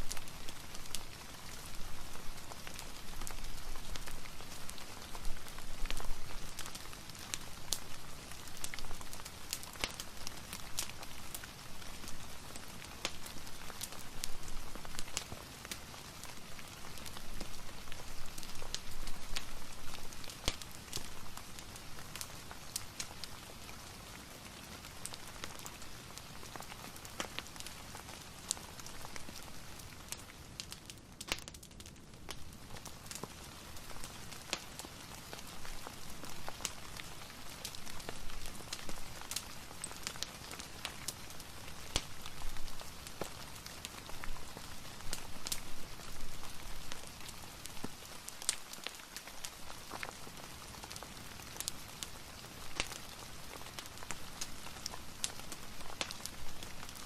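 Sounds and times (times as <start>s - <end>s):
rain falling: 0.0s - 57.0s
wood fire crackling and popping: 0.0s - 57.0s.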